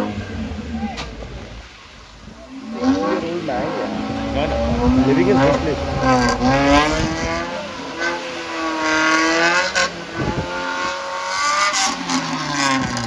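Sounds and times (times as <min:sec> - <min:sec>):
off-road engine revving hard: 0:00.0 - 0:13.0.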